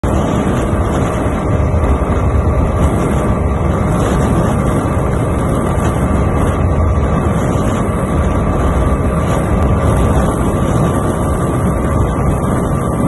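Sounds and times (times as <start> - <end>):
motorcycle engine running hard: 0.0 - 13.0
wind rush on microphone: 0.0 - 13.0.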